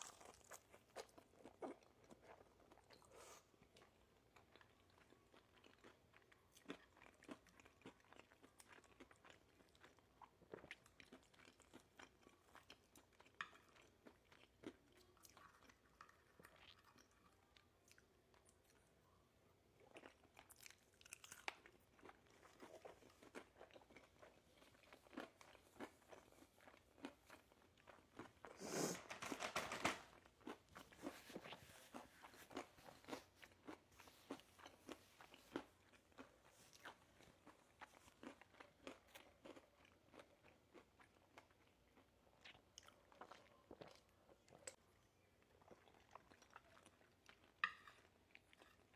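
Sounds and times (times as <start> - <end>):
person chewing crunchy food: 0.0 - 18.8, 19.8 - 29.0, 30.1 - 44.8, 45.4 - 48.9.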